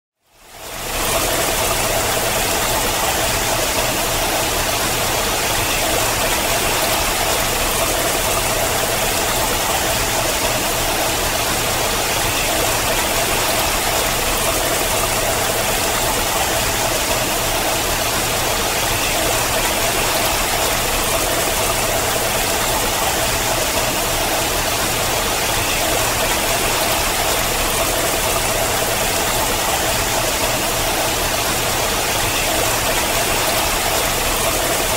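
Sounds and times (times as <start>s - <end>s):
water pouring down rock face: 0.6s - 34.9s.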